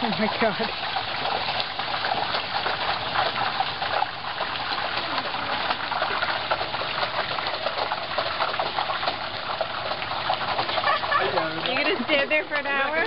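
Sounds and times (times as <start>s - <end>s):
oil bubbling and crackling: 0.0s - 13.0s.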